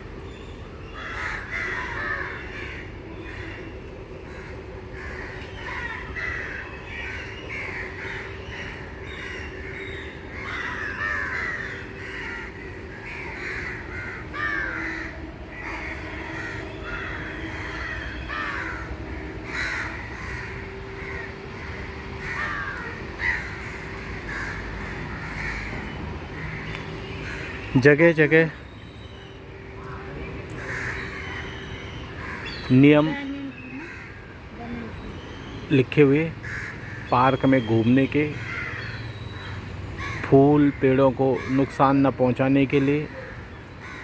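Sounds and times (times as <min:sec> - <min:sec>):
crows cawing: 0:00.8 - 0:44.0.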